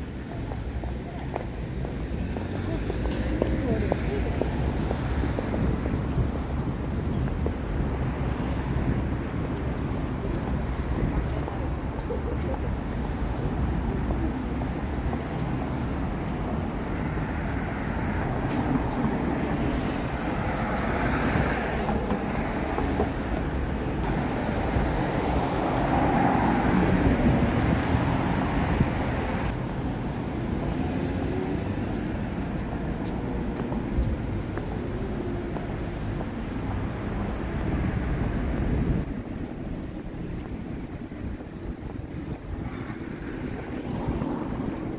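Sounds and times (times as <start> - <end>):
street traffic: 0.0 - 44.9.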